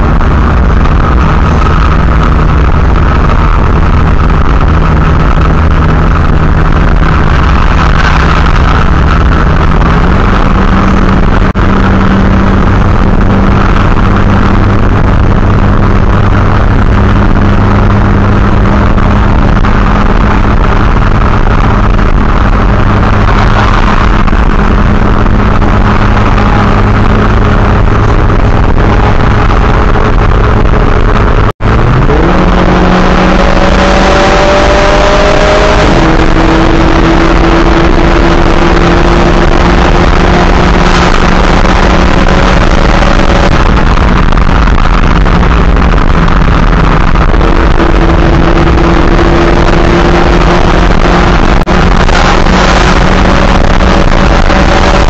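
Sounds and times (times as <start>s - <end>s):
car engine drone: 0.0s - 55.0s
road noise: 0.0s - 55.0s.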